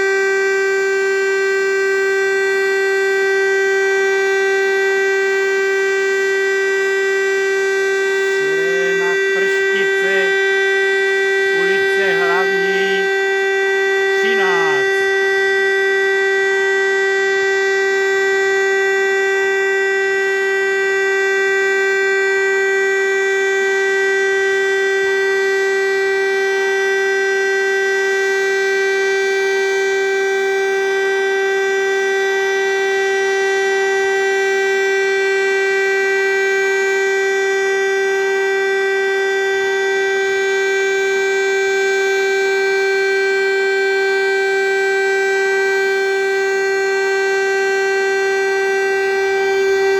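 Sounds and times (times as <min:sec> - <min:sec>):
civil defence siren steady tone: 0:00.0 - 0:49.9.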